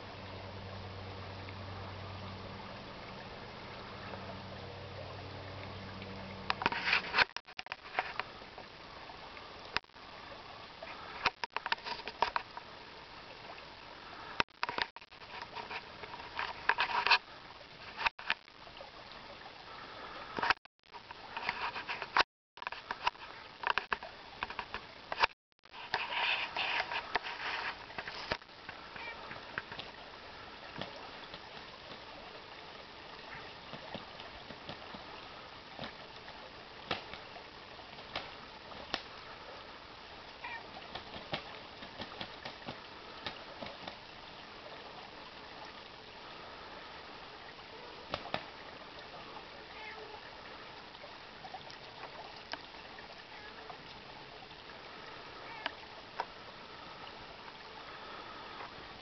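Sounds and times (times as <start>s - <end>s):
creek water running over stones: 0.0s - 59.0s.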